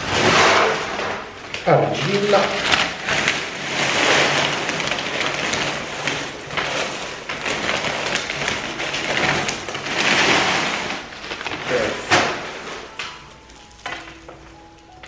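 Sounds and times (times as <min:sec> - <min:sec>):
clay pebbles pouring onto soil: 0:01.6 - 0:15.0.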